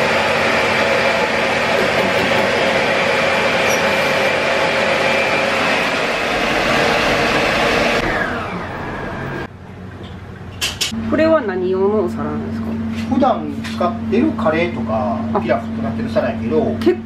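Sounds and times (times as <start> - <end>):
gas burners roaring: 0.0 - 17.0.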